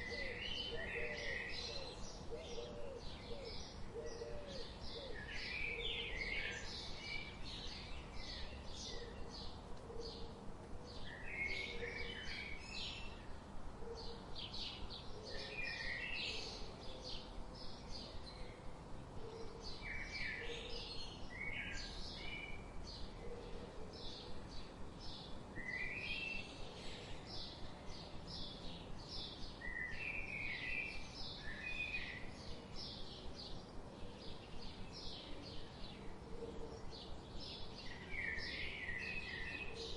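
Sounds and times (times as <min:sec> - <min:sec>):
songbirds chirping and singing: 0:00.0 - 0:39.9
steady background hiss: 0:00.0 - 0:39.9.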